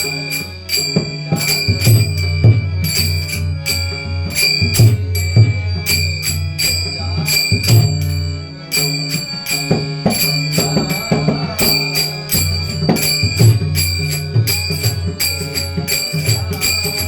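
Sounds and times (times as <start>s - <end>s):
brass hand cymbals ringing: 0.0s - 17.0s.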